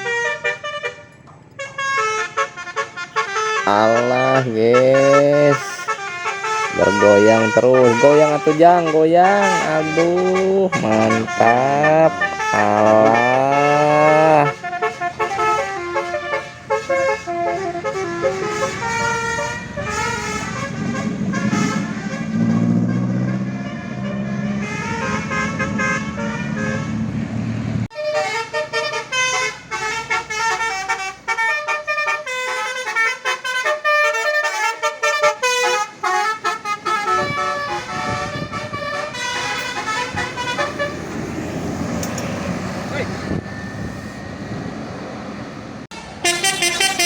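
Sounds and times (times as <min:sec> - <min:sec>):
musical bus horn notes: 0:00.0 - 0:27.1, 0:27.9 - 0:44.2, 0:45.9 - 0:47.0.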